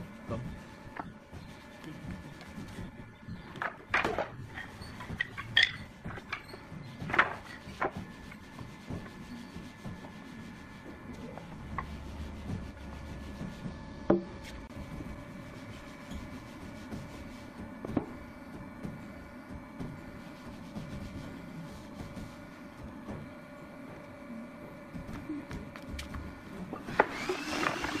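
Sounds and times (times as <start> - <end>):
wood rubbing and scraping: 0.0 - 24.1, 25.0 - 28.0.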